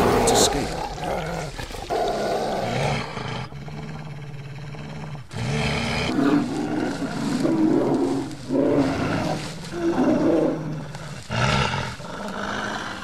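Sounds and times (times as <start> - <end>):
bear growling: 0.0 - 13.0.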